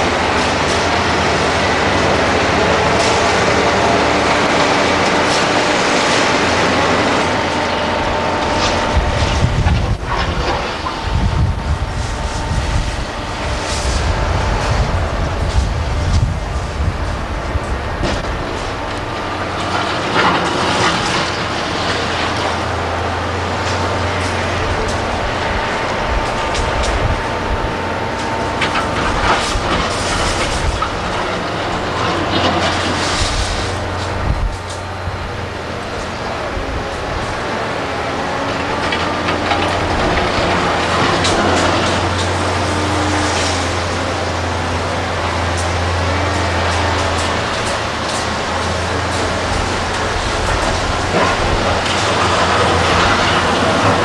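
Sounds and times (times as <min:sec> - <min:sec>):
deeper engine rumble: 0:00.0 - 0:54.0
heavy machinery diesel engines rumbling: 0:00.0 - 0:54.0
steady high whine: 0:00.0 - 0:54.0.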